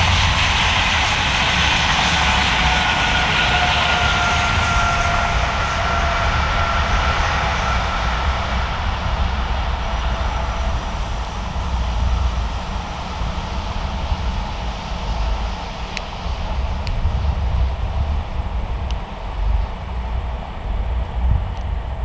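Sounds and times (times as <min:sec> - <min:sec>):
electric train passing: 0:00.0 - 0:22.0
train whine and hiss: 0:00.0 - 0:22.0.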